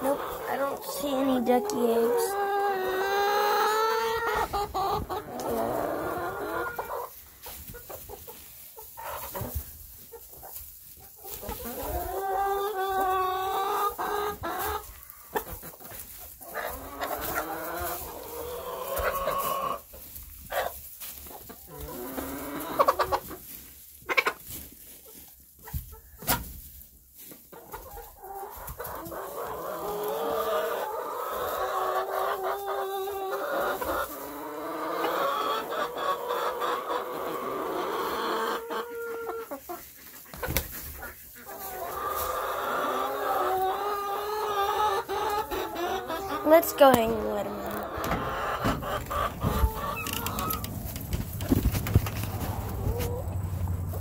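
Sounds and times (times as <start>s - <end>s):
chickens clucking and calling: 0.0s - 54.0s.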